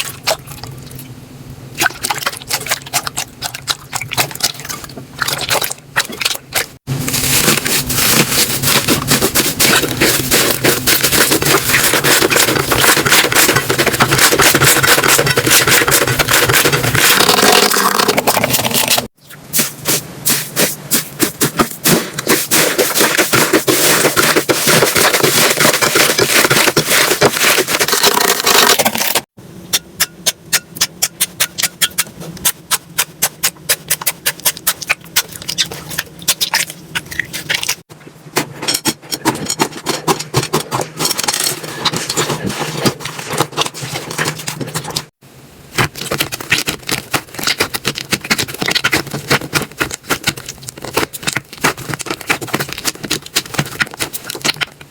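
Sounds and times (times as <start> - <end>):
slime squishing and crackling: 1.8 - 29.3, 31.2 - 37.9, 38.8 - 54.9.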